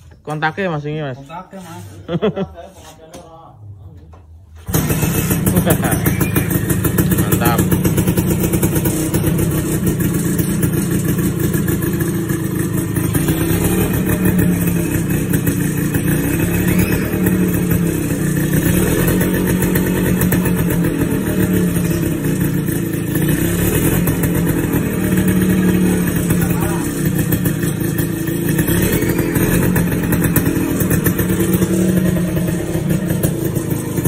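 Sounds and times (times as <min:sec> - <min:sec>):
two-stroke motorcycle engine running: 0:04.6 - 0:34.0.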